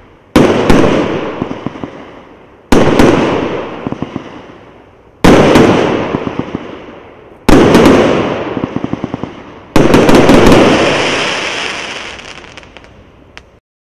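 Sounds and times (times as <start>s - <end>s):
firework bursts: 0.0s - 13.6s
firework crackling: 0.0s - 13.6s.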